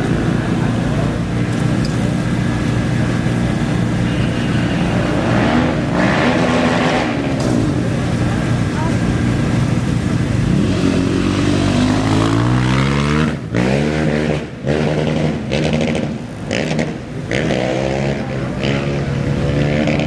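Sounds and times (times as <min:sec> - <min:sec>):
race engine accelerating through gears: 0:00.0 - 0:20.0.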